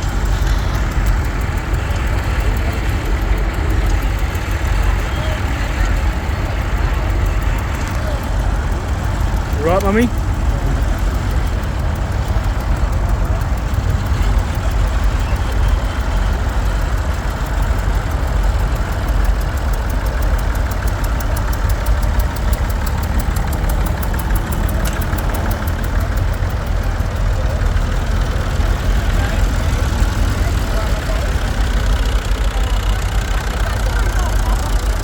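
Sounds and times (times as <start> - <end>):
tractor engines rumbling: 0.0 - 35.0.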